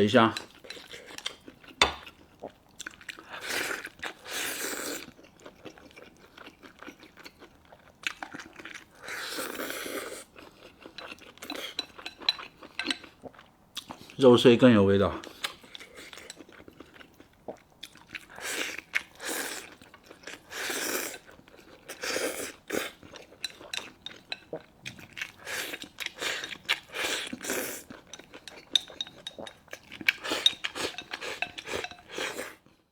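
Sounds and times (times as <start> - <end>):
close chewing of food: 0.0 - 14.2, 15.1 - 32.9.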